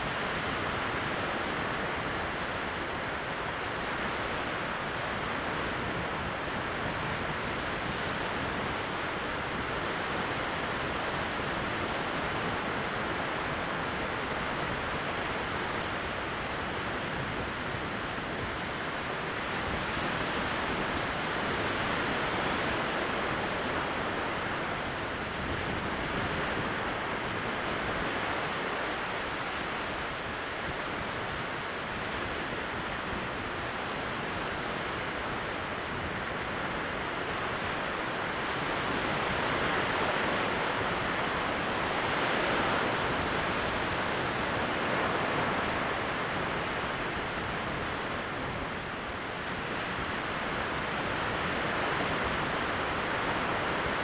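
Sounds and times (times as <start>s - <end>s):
small waves breaking: 0.1s - 54.0s.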